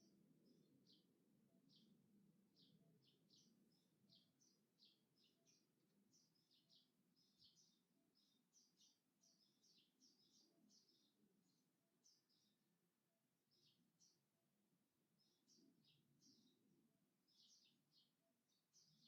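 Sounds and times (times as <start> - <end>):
faint birdsong chirps: 0.0 - 19.0.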